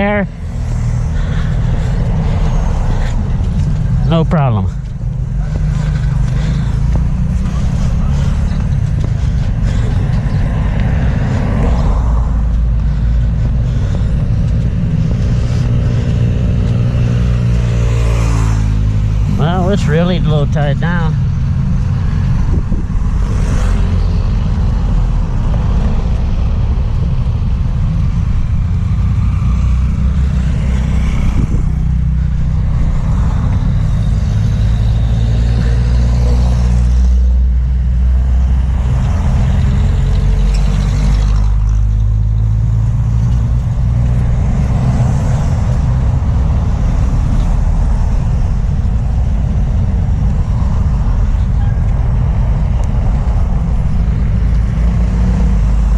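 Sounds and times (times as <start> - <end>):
vehicles passing by: 0.0 - 55.9.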